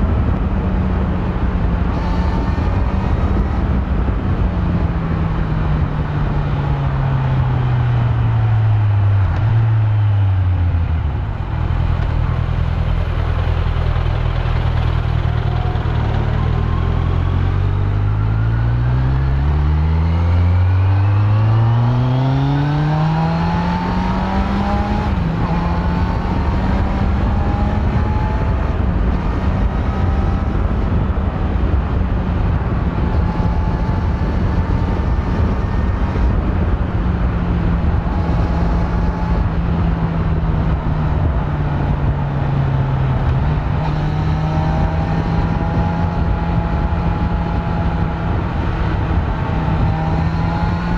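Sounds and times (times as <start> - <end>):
loud wind rushing: 0.0 - 50.9
motorcycle engine accelerating: 0.0 - 50.9.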